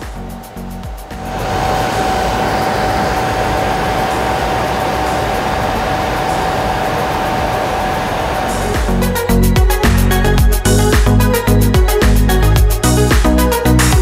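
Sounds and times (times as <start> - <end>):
machine running: 0.0 - 11.4
constant whine: 0.0 - 13.8.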